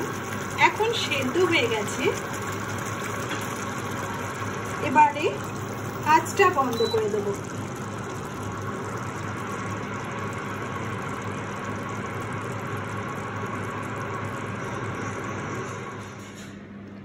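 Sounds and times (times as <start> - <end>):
curry simmering and bubbling: 0.0 - 16.2.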